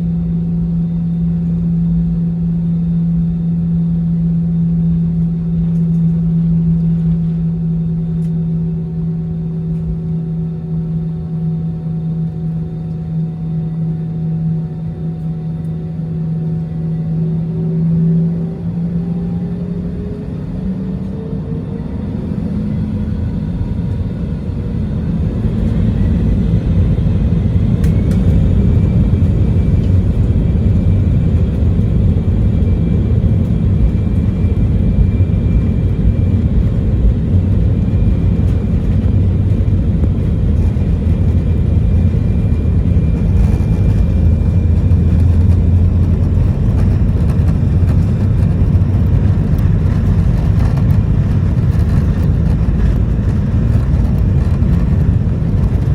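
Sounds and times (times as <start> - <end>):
high engine whine: 0.0 - 55.9
jet engines rumbling: 0.0 - 55.9.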